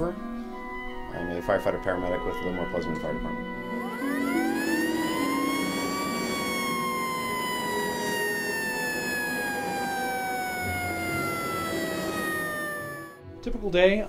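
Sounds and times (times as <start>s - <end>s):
fire engine siren: 0.0s - 13.2s.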